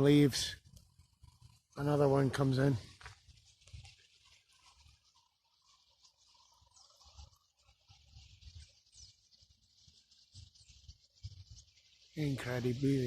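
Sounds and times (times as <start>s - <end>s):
flock of starlings chattering: 0.0s - 13.0s.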